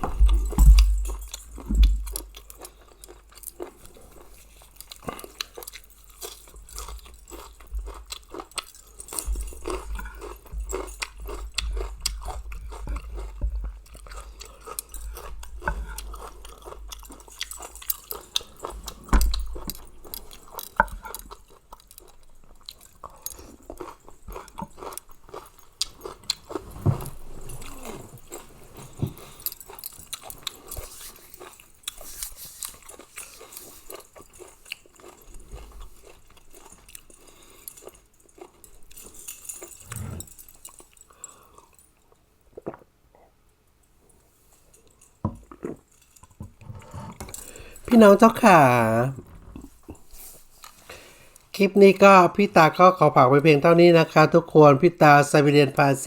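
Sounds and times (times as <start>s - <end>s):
person chewing crunchy food: 0.0s - 43.4s, 44.7s - 51.5s.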